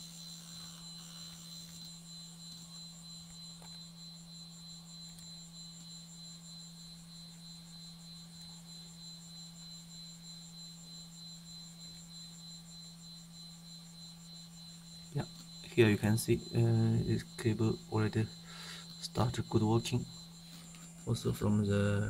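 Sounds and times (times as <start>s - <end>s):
hard disk spinning with whine: 0.0s - 22.0s.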